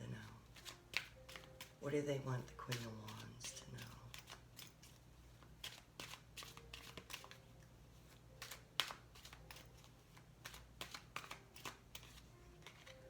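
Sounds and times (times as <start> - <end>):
cards being shuffled: 0.1 - 13.0.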